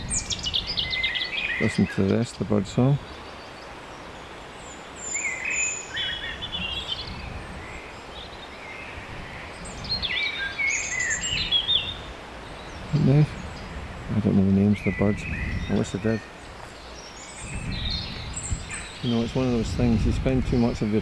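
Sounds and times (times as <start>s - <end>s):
low background noise: 0.0s - 21.0s
songbirds singing: 0.0s - 21.0s.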